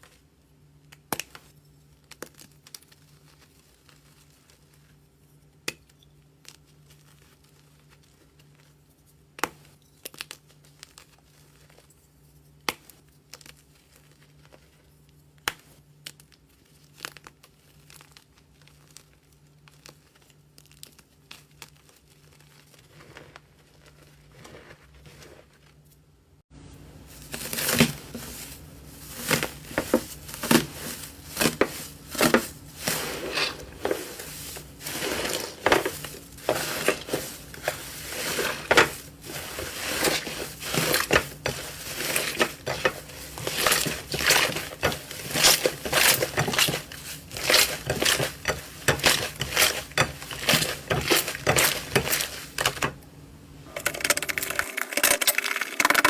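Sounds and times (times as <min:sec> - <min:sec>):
slime squishing and crackling: 0:00.0 - 0:11.9, 0:12.6 - 0:25.8, 0:27.2 - 0:53.0, 0:53.6 - 0:56.0.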